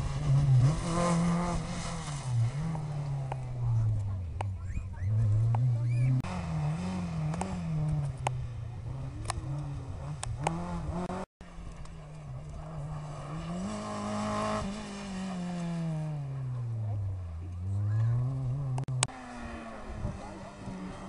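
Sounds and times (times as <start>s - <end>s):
rally car engine changing gears: 0.0s - 21.0s
rally car passing by: 0.0s - 21.0s.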